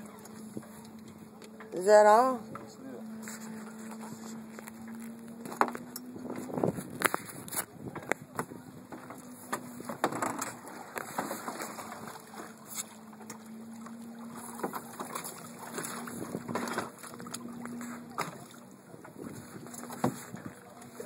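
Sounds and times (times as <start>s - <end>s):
water sloshing against boat hull: 0.0s - 21.0s.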